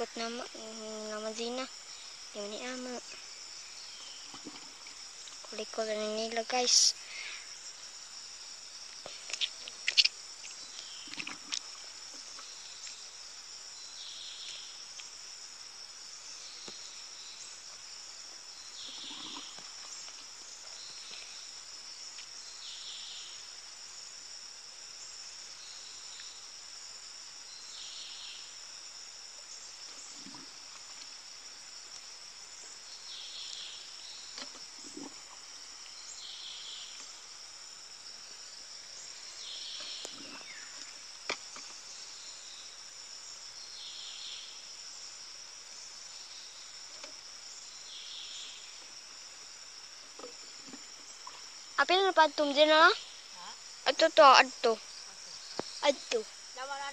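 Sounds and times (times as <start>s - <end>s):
insects chirring: 0.0s - 56.9s.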